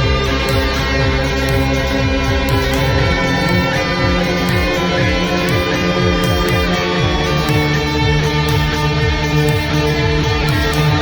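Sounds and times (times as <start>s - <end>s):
instrumental music with guitars: 0.0s - 11.0s.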